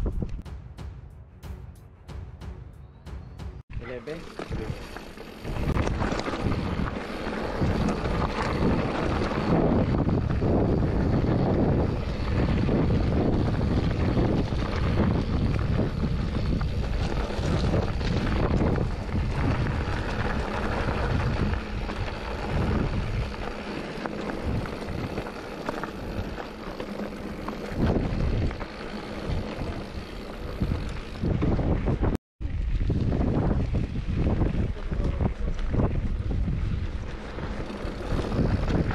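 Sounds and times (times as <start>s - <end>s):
wind buffeting microphone: 0.0s - 38.9s
bike tyres rolling on gravel: 3.7s - 38.9s.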